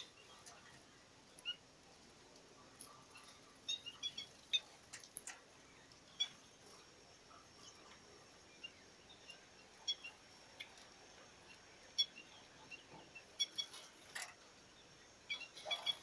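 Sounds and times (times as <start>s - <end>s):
finches chirping: 0.0s - 1.7s, 2.6s - 16.0s.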